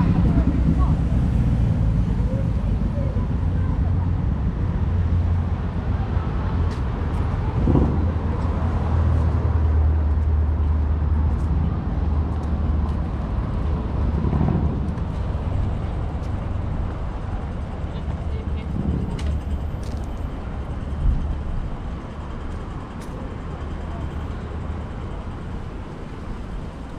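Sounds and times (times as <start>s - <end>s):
low rumble of motor vehicles: 0.0s - 26.9s.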